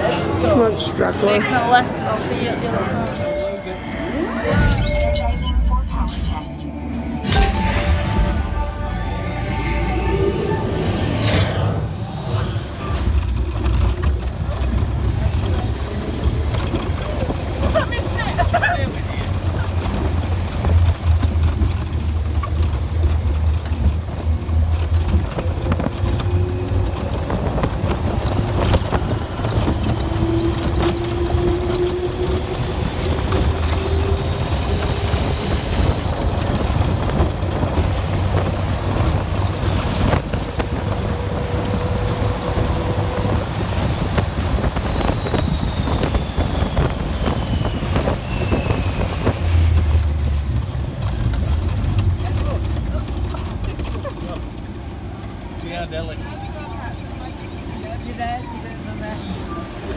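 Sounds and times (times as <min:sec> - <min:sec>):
ride vehicle rumble: 0:00.0 - 0:59.9
rushing wind: 0:07.1 - 0:55.6.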